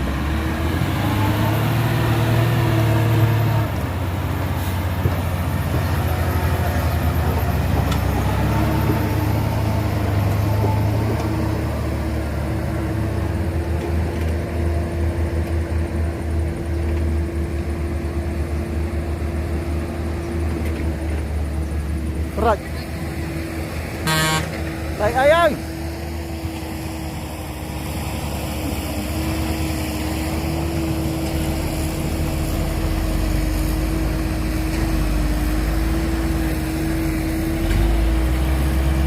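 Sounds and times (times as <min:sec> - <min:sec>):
heavy diesel engine under load: 0:00.0 - 0:39.0.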